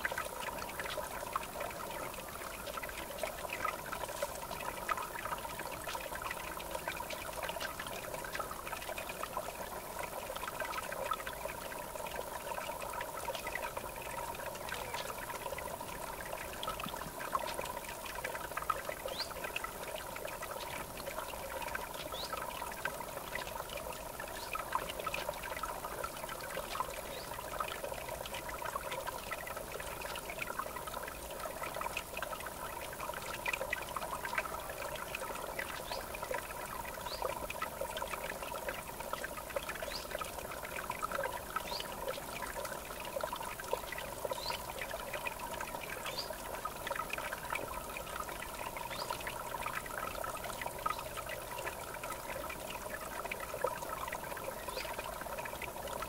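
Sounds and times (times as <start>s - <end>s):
river water trickling and splashing: 0.0s - 56.0s.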